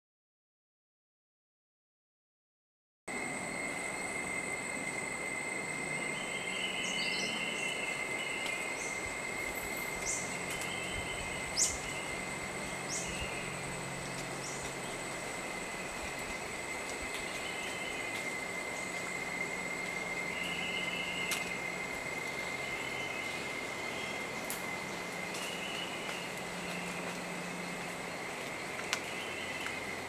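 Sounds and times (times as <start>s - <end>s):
insects droning: 3.1s - 30.0s.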